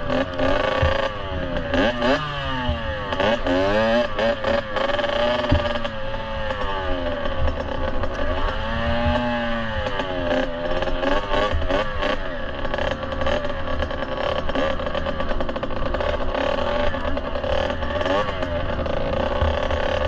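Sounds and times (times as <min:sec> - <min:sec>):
bike clattering over rough ground: 0:00.0 - 0:20.0
two-stroke motorbike engine revving: 0:00.0 - 0:20.0.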